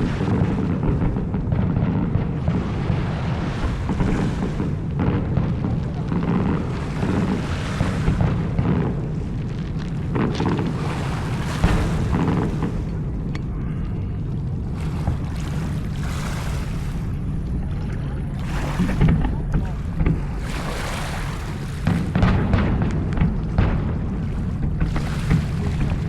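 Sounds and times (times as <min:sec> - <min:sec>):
fireworks booming and crackling: 0:00.0 - 0:26.0.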